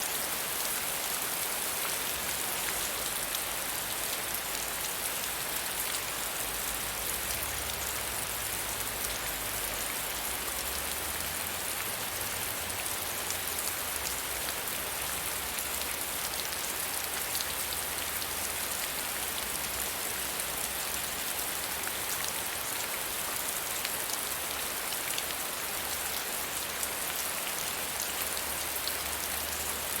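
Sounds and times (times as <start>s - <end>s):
steady rain with drop ticks: 0.0s - 30.0s.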